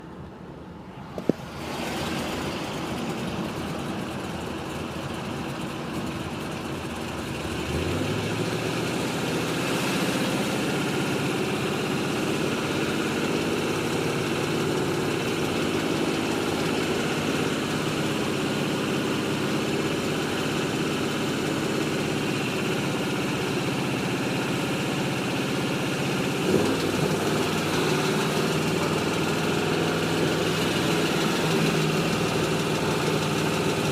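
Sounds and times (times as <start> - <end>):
car engine starting and idling: 0.0 - 33.9
engine ticking noise: 1.1 - 33.9.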